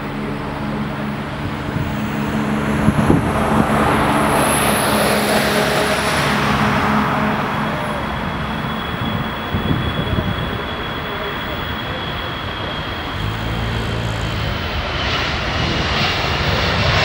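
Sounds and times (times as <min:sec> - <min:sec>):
thin high whine: 0:00.0 - 0:15.4
jet engines at takeoff: 0:00.0 - 0:17.0.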